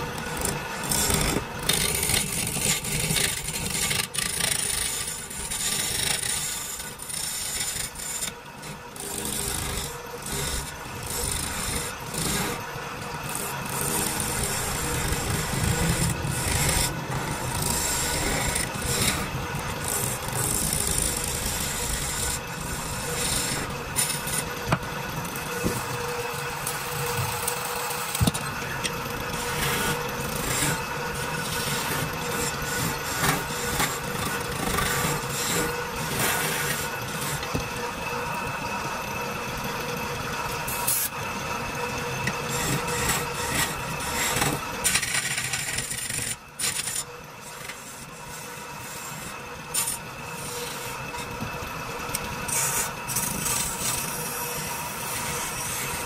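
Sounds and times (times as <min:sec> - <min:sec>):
chisel scraping wood on lathe: 0:00.0 - 0:37.6, 0:42.2 - 0:51.5, 0:52.1 - 0:56.0
wood lathe humming: 0:00.0 - 0:56.0.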